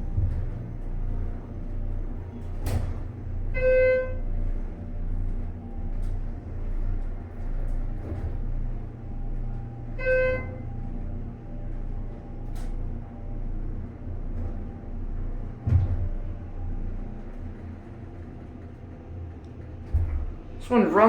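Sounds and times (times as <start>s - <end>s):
elevator hum and rumble: 0.0s - 21.0s.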